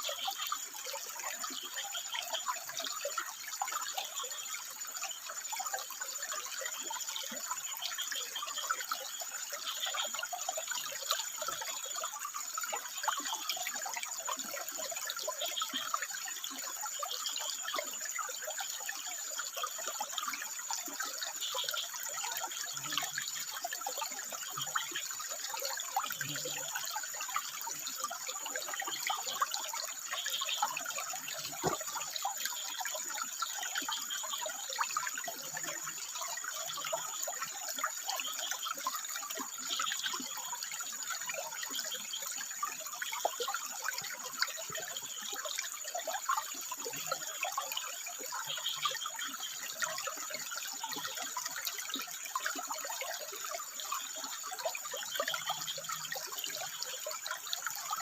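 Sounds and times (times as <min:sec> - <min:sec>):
frogs calling: 0:00.0 - 0:58.0
water trickling over rocks: 0:00.0 - 0:58.0.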